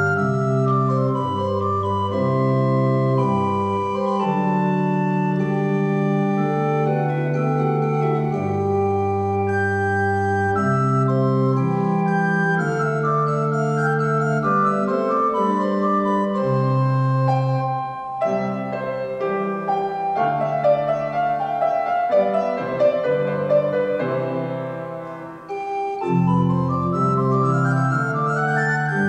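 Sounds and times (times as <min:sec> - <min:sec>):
chamber organ: 0:00.0 - 0:29.0
upright piano: 0:00.0 - 0:29.0.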